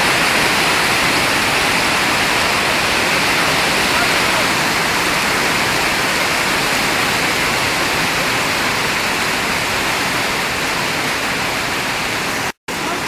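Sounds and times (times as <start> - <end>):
hail and rain pelting ground: 0.0 - 13.0.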